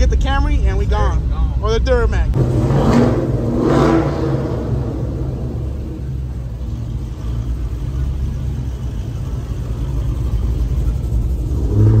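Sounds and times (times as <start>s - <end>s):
truck engine rumbling at low revs: 0.0s - 12.0s.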